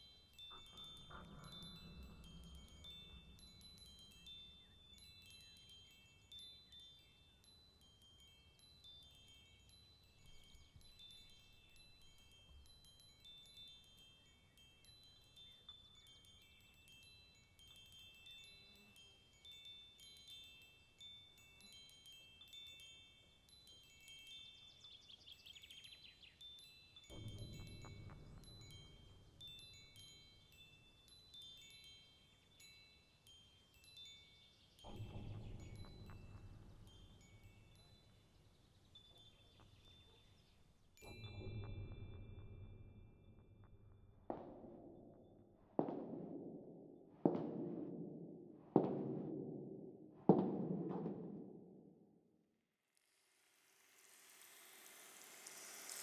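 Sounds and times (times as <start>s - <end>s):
high chimes tinkling: 0.0s - 43.6s, 53.4s - 56.0s.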